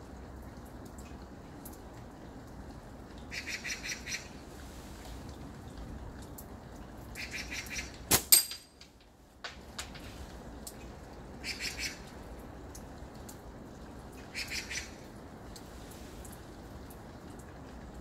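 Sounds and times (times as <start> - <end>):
rain hiss: 0.0 - 18.0.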